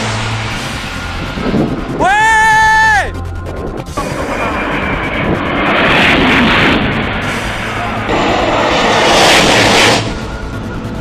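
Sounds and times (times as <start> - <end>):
background music: 0.0 - 11.0
train rushing past: 0.0 - 11.0.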